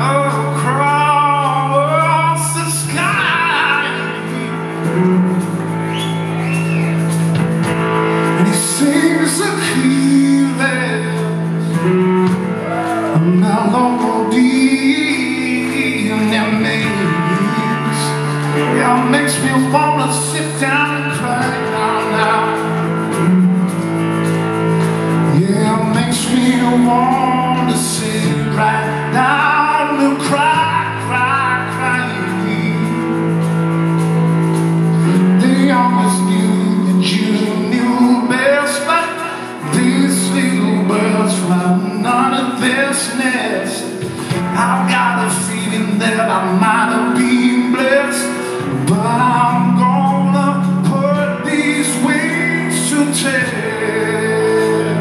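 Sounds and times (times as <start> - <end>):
man singing lead vocal: 0.0 - 6.8, 8.2 - 24.2, 24.9 - 55.0
bass guitar: 0.0 - 55.0
drums: 0.0 - 55.0
electric guitar: 0.0 - 55.0.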